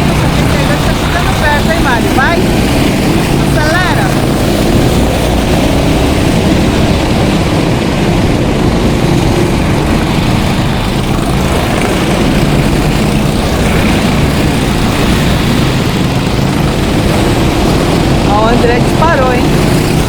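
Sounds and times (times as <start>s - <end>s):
racing kart engines: 0.0s - 20.0s.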